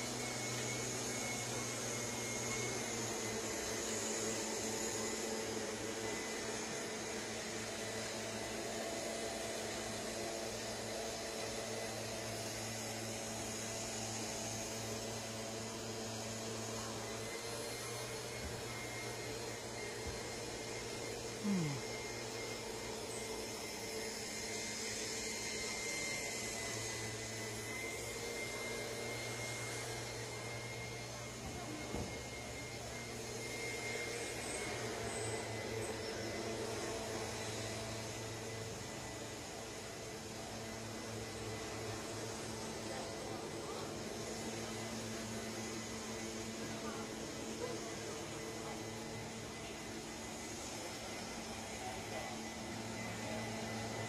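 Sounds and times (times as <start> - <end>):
faint high whine: 0.0 - 54.0.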